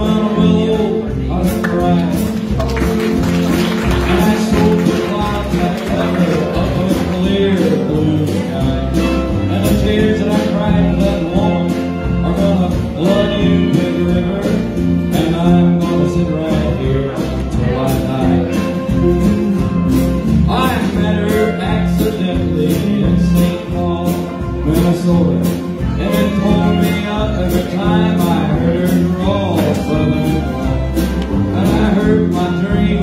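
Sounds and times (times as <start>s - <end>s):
live country band playing: 0.0s - 33.0s.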